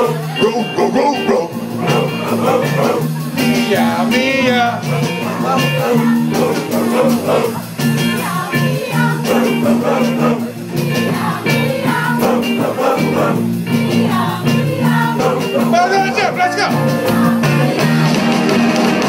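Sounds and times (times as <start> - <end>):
live band playing soul rock: 0.0 - 19.0
person singing: 0.0 - 19.0.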